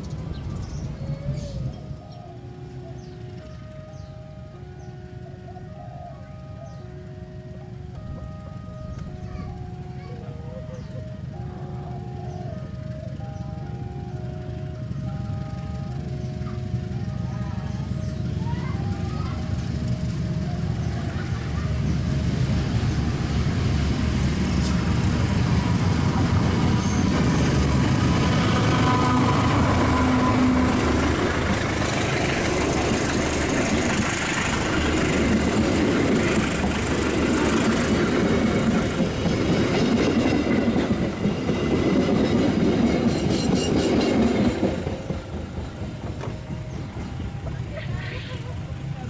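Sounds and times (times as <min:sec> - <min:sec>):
diesel locomotive passing: 0:00.0 - 0:49.0
coaches rumbling and clattering: 0:06.9 - 0:49.0.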